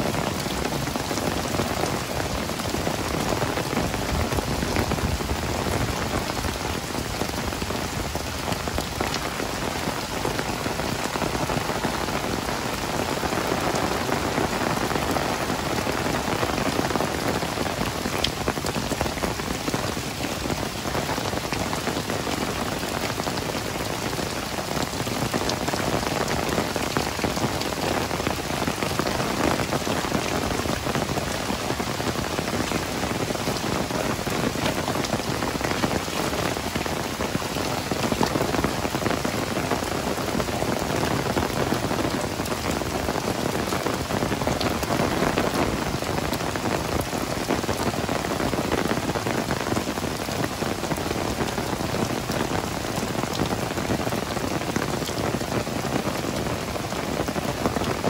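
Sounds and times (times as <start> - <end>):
heavy rain on hard surfaces: 0.0 - 58.0.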